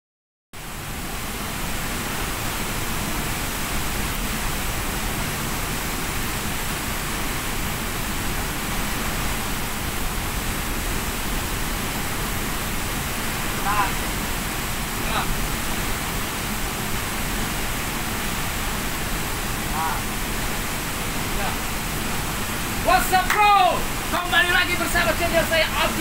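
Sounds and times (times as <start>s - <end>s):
waterfall and rain rushing: 0.6s - 26.0s.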